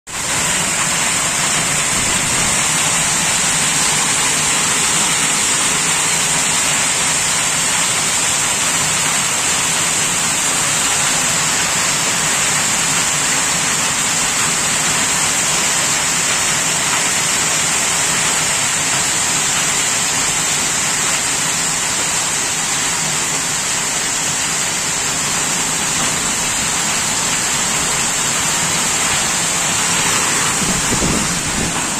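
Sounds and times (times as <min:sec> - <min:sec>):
heavy rain on grass and paving: 0:00.1 - 0:31.9.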